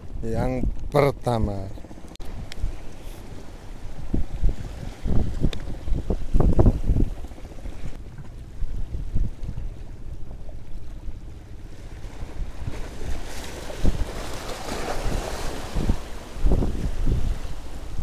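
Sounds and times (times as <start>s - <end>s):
wind rumbling on microphone: 0.0s - 18.0s
waves breaking over rocks: 2.3s - 8.4s, 9.1s - 18.0s.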